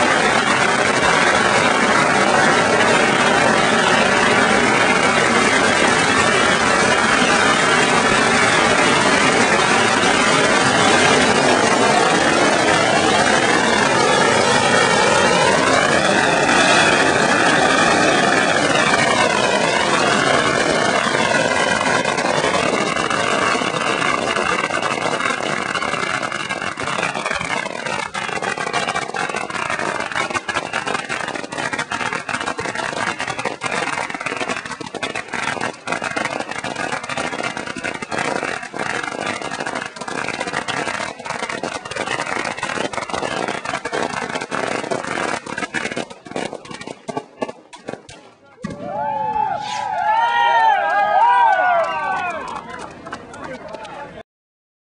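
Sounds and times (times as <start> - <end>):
sharp firecracker bangs: 0.0 - 50.3
firecrackers crackling: 0.0 - 54.2.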